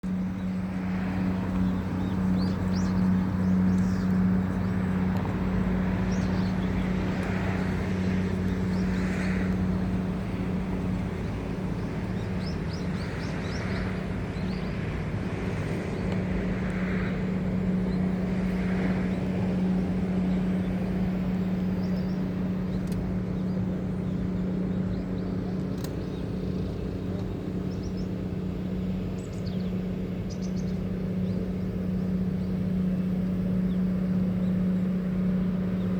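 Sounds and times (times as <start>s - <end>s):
low motor hum: 0.0s - 35.9s.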